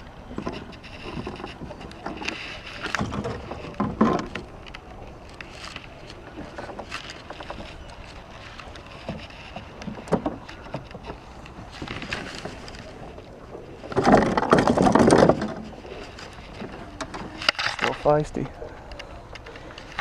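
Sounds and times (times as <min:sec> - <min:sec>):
fish splashing and thrashing: 0:00.0 - 0:20.0.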